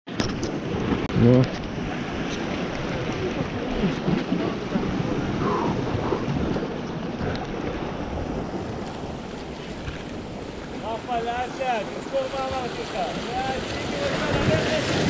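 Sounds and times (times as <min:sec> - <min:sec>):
waves washing against rocks: 0:00.1 - 0:15.0
wind buffeting microphone: 0:00.1 - 0:15.0.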